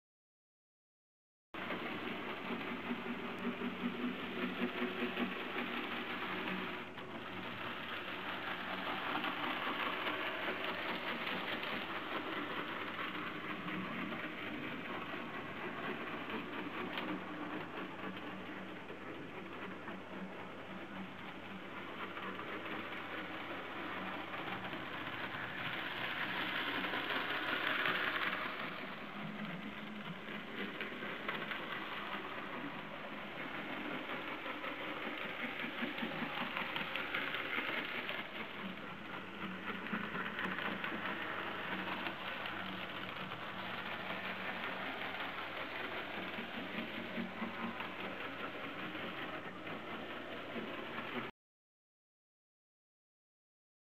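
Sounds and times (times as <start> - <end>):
model train motor whirring: 1.6 - 51.2
wheels rattling on track: 1.6 - 51.3.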